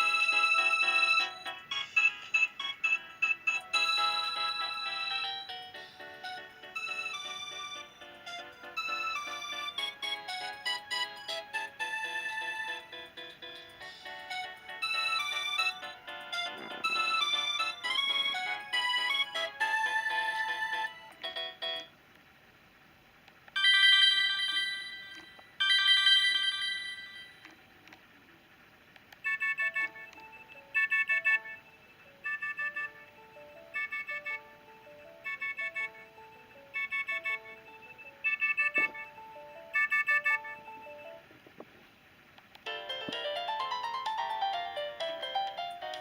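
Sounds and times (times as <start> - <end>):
phone ringtone: 0.0 - 21.9, 23.6 - 27.5, 29.2 - 41.2, 42.7 - 46.0.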